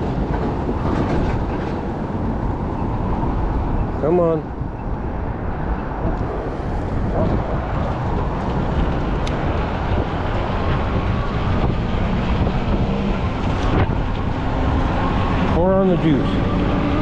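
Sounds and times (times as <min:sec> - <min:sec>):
vehicle and road noise: 0:00.0 - 0:17.0
wind blowing across microphone: 0:00.0 - 0:17.0.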